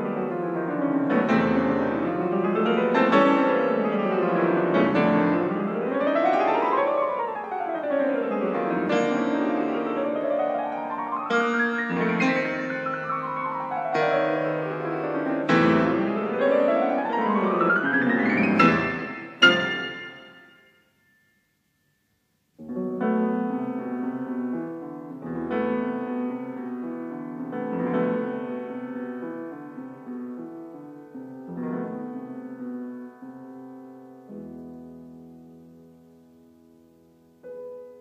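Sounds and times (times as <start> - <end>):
loud piano chords: 0.0 - 21.4, 22.6 - 38.0.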